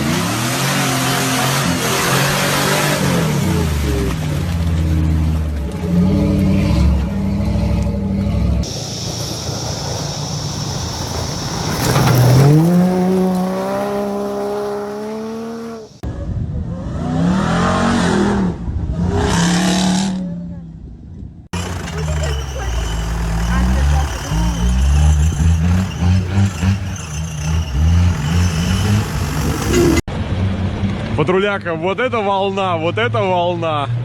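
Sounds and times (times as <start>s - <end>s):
off-road engines revving hard: 0.0s - 16.0s, 16.8s - 20.2s, 21.6s - 30.1s.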